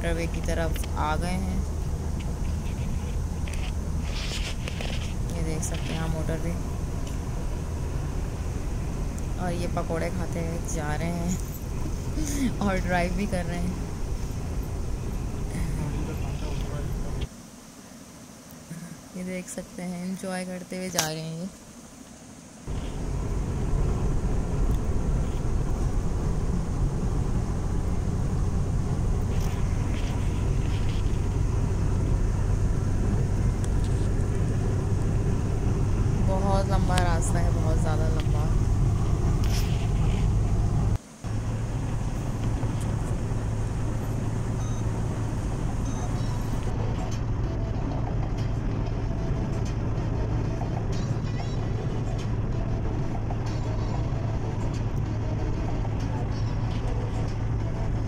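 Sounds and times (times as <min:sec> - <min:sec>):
tyre and engine rumble in car: 0:00.0 - 0:17.3, 0:22.7 - 0:58.0.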